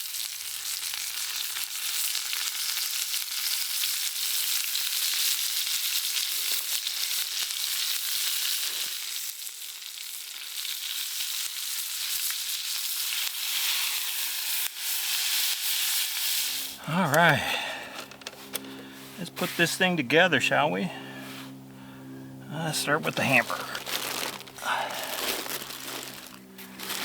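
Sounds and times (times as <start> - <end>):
burger patty sizzling over campfire: 0.0 - 20.4, 22.6 - 27.0.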